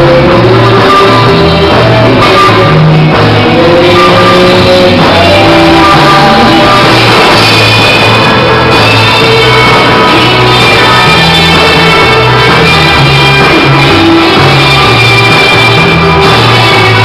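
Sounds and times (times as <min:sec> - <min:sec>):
bass line: 0:00.0 - 0:17.0
guitar: 0:00.0 - 0:17.0
rock band playing: 0:00.0 - 0:17.0.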